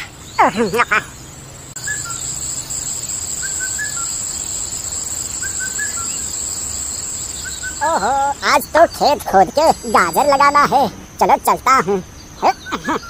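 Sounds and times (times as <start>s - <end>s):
crickets chirring: 0.0s - 13.0s
faint bird chirps: 0.0s - 13.0s.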